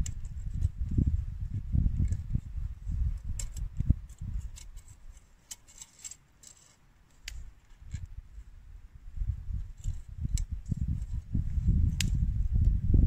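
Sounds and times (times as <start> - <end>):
wind rumbling on microphone: 0.0 - 5.2, 7.3 - 13.0.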